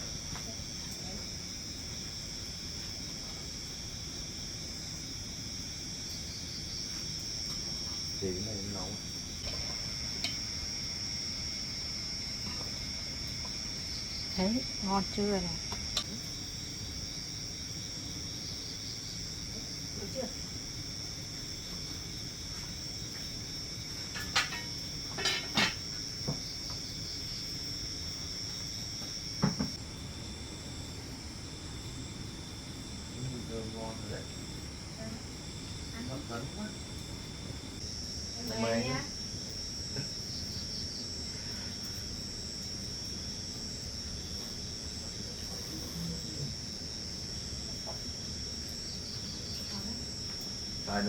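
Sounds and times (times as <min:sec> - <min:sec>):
crickets chirring: 0:00.0 - 0:51.0.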